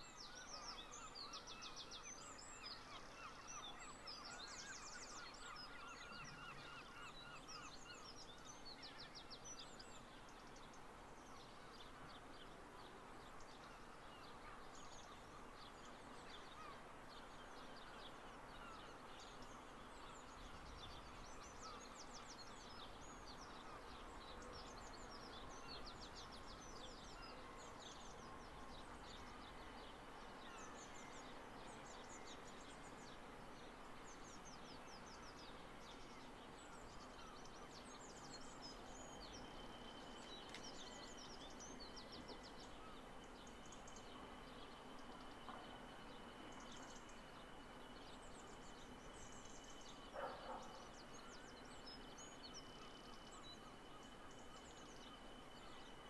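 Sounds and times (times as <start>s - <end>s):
faint background noise: 0.0s - 56.0s
small birds chirping and trilling: 0.0s - 56.0s.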